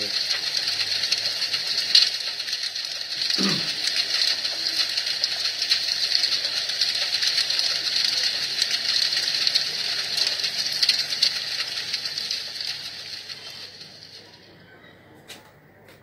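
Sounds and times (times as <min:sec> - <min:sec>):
fire crackling through small speaker: 0:00.0 - 0:16.0.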